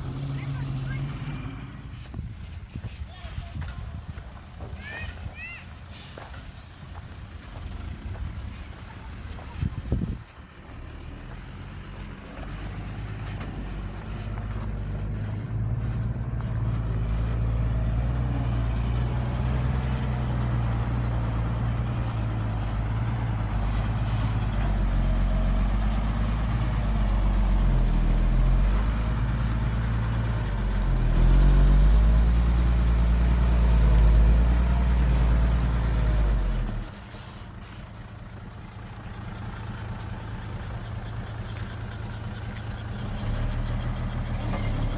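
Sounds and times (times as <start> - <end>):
heavy diesel engine under load: 0.0 - 44.9.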